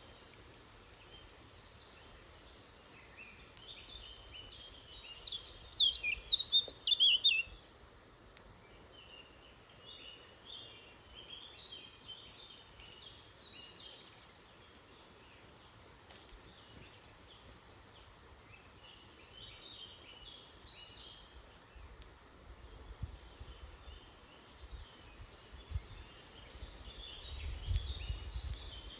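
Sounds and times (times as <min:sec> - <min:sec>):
songbirds singing and chirping: 0:00.0 - 0:28.9
steady background hiss: 0:00.0 - 0:28.9.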